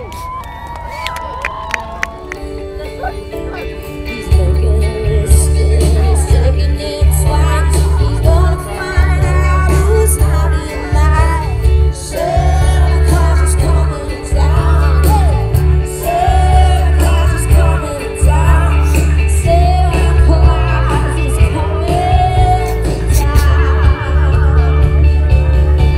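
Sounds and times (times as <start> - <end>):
keyboard: 1.2 - 25.9
guitars: 2.4 - 25.9
woman singing lead: 2.7 - 25.9
drums and cymbals: 4.2 - 25.9
heavy bass line: 4.3 - 25.9.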